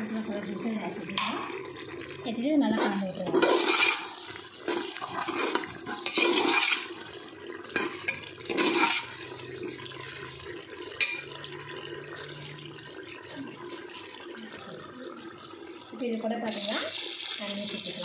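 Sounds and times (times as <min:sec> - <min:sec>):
ladle stirring wet sauce: 0:00.0 - 0:17.2.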